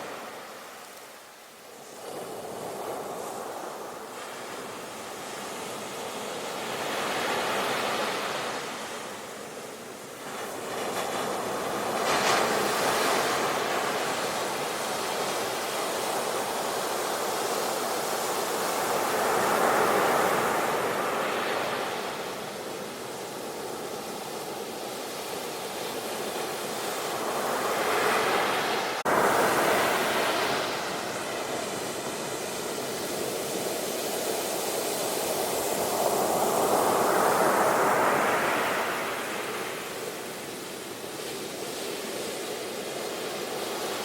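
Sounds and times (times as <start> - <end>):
ocean waves breaking on shore: 0.0 - 44.0.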